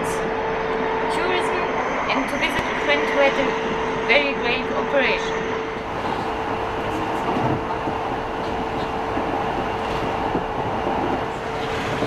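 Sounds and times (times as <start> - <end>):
constant hum: 0.0 - 12.0
train rail rumble: 0.0 - 12.0.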